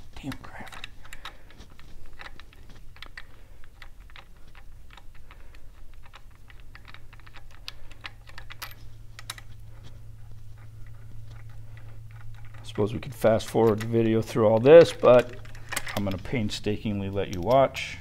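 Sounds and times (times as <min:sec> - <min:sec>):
steady low hum: 0:00.0 - 0:18.0
hand tools clicking and tapping: 0:00.2 - 0:17.8.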